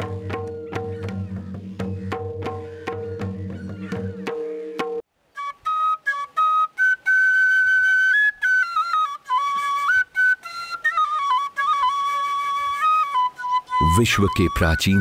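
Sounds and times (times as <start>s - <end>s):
solo flute melody: 0.0s - 15.0s.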